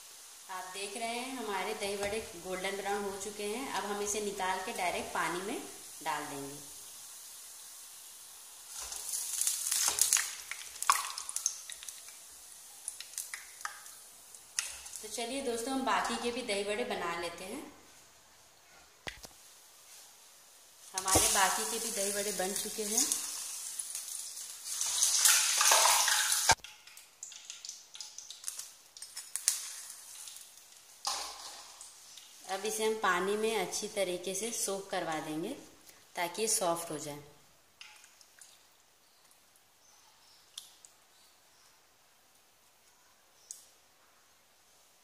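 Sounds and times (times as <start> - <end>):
food sizzling in hot oil: 0.0 - 18.6, 19.2 - 42.3.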